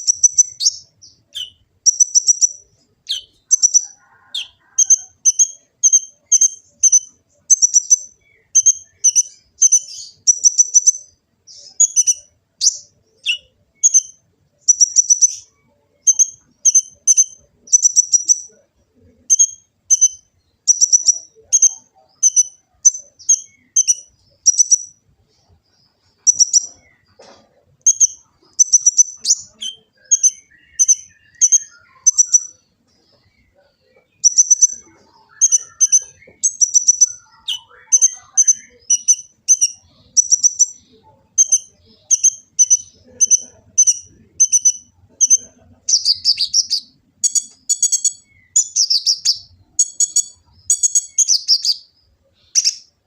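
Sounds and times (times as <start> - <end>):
bird chirping and twittering: 0.0 - 53.0.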